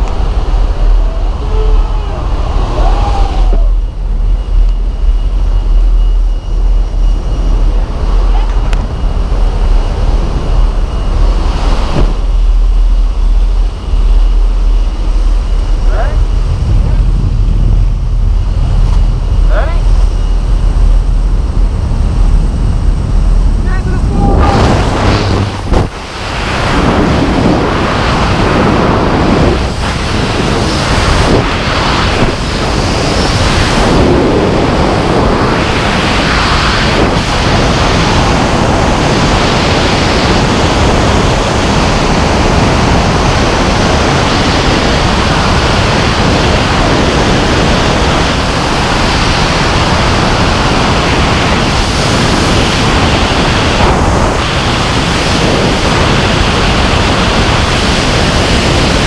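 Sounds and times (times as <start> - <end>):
freefall wind rush: 0.0 - 59.0.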